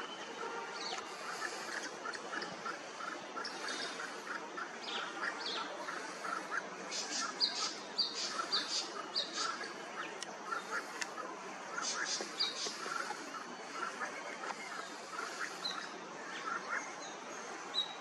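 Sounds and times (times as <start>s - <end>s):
background hiss: 0.0s - 18.0s
birds chirping: 0.0s - 18.0s.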